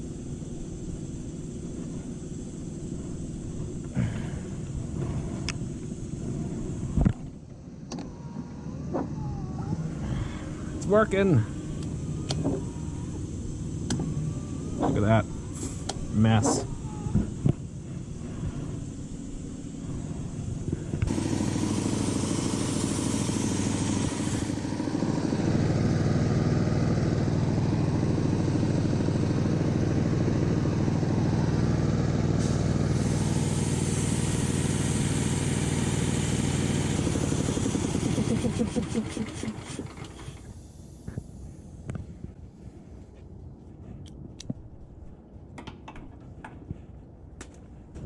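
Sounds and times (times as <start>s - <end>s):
engine running: 0.0s - 44.2s.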